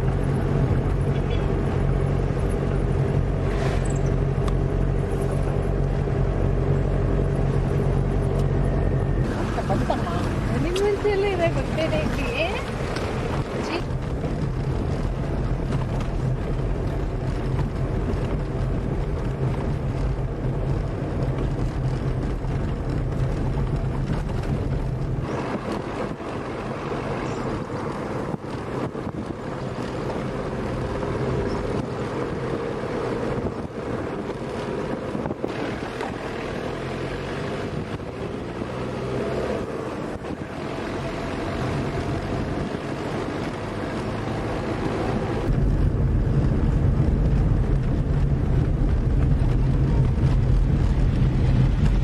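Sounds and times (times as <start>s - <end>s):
vehicle engine running: 0.0s - 52.0s
wind noise: 0.0s - 52.0s.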